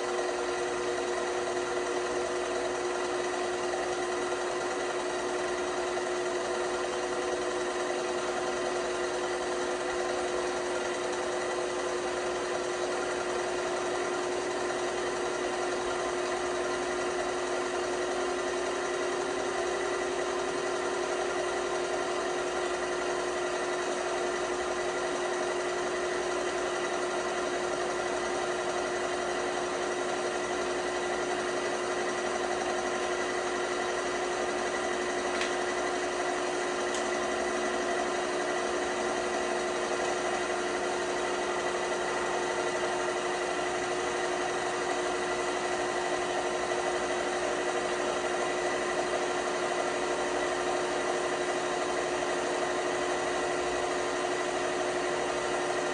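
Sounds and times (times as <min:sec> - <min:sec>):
washing machine motor hum: 0:00.0 - 0:55.9.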